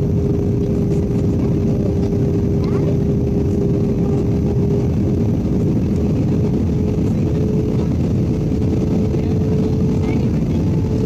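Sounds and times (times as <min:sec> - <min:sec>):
jet engines roaring: 0:00.0 - 0:11.0
steady hum: 0:00.0 - 0:11.0.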